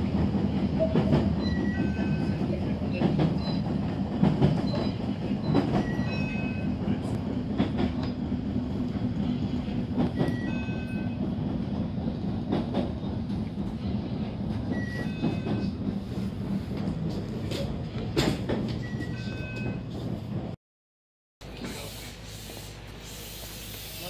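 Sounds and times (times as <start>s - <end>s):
train interior rumble: 0.0s - 20.6s.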